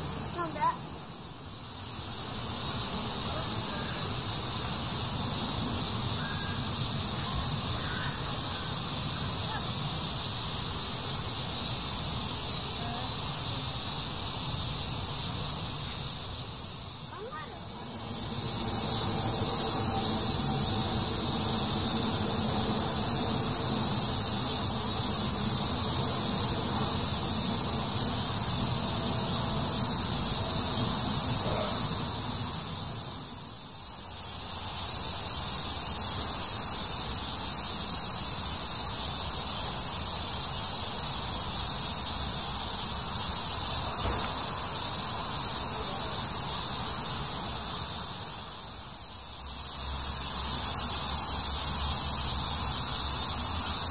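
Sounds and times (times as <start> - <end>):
cicadas shrilling: 0.0 - 53.9.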